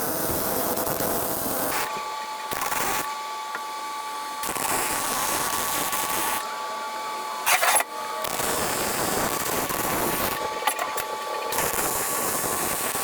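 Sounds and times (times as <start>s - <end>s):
arc welding crackling hiss: 0.0s - 13.0s.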